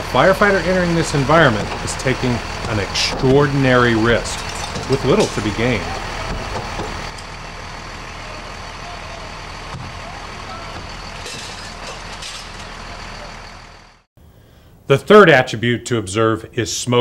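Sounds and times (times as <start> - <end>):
large vehicle engine running: 0.0 - 14.1.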